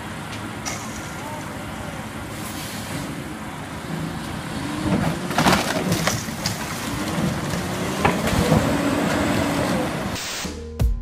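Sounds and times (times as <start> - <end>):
diesel truck engine: 0.0 - 10.7.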